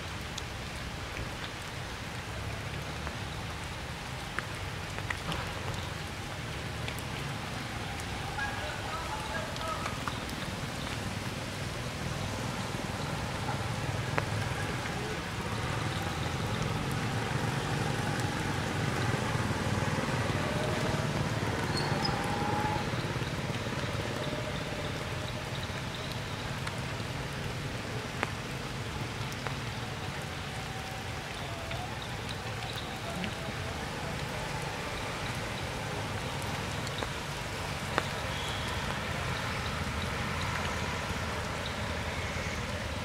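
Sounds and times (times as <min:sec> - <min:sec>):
rain falling through foliage: 0:00.0 - 0:43.0
sharp water drips: 0:00.0 - 0:43.0.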